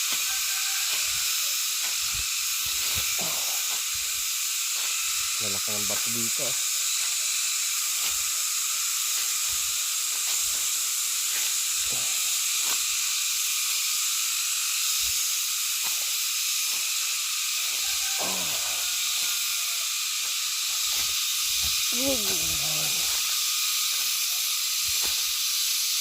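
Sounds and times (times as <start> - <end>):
night insects chorus: 0.0 - 26.0.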